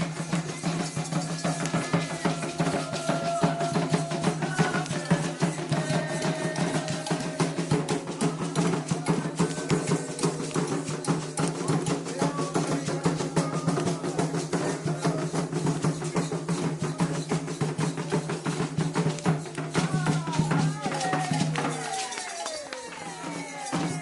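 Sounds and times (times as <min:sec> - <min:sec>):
hand drums playing: 0:00.0 - 0:24.0
struck percussion: 0:00.0 - 0:24.0.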